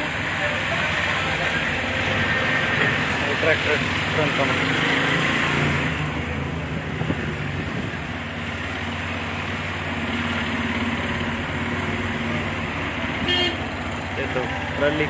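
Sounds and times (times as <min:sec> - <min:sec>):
street traffic: 0:00.0 - 0:15.0
vehicle engine humming: 0:00.0 - 0:15.0.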